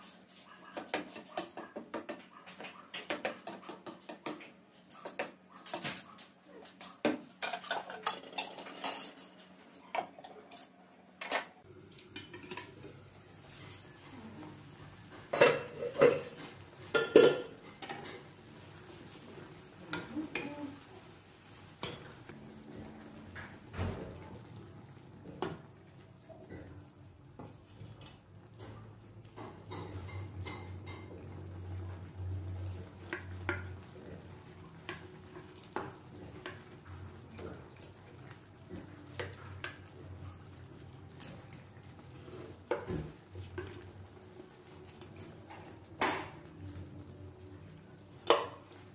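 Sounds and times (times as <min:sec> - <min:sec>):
faint sauce sizzling: 0:00.0 - 0:48.9.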